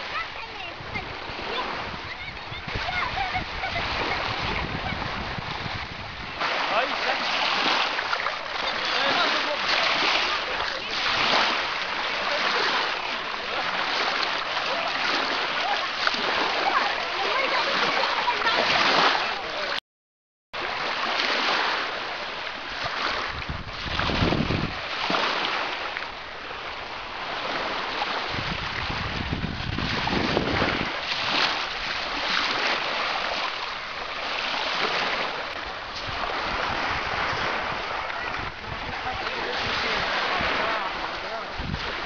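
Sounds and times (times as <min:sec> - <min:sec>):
wind rumbling on microphone: 0:00.0 - 0:19.4, 0:22.6 - 0:42.0
waves washing on sand: 0:00.0 - 0:19.8, 0:20.6 - 0:42.0.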